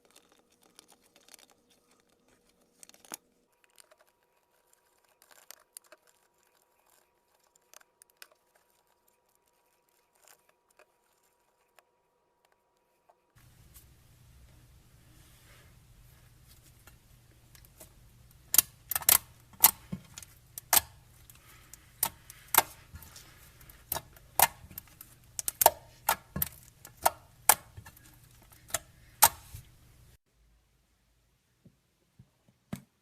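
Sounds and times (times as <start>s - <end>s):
faint low hum: 0.0s - 32.8s.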